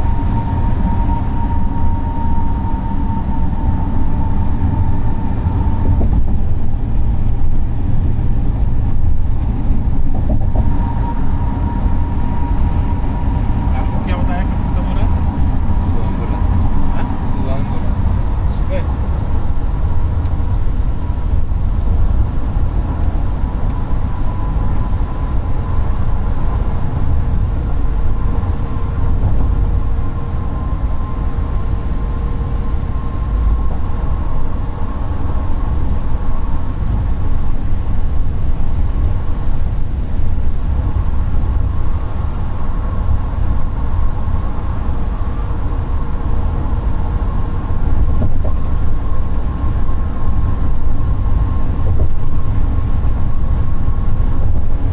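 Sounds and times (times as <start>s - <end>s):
faint steady whine: 0.0s - 54.9s
road and engine rumble in van: 0.0s - 54.9s.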